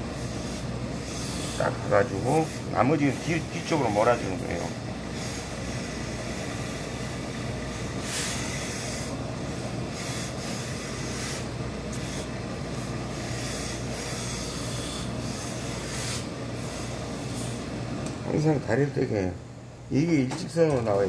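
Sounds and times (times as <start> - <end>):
steam iron hissing: 0.0 - 17.8.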